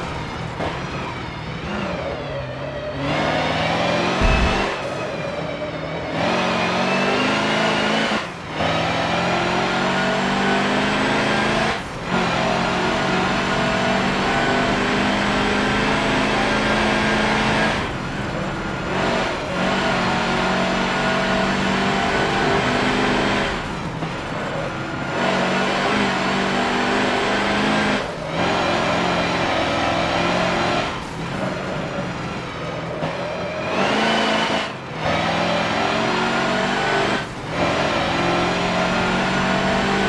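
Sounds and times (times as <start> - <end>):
diesel truck engine accelerating: 0.0 - 40.0.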